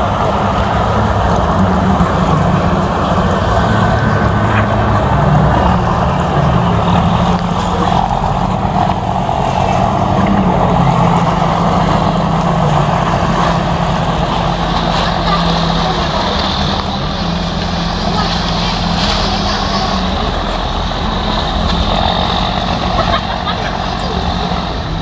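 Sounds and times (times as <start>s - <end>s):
motorboat engines droning: 0.0s - 25.0s.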